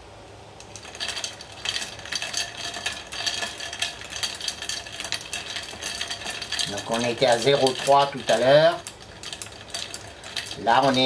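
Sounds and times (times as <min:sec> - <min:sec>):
ice cubes clinking against glass: 0:00.7 - 0:11.0.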